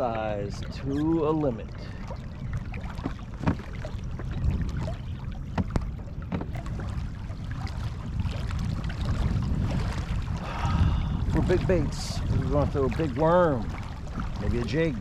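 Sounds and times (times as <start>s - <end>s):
wind and water against hull: 0.0s - 15.0s.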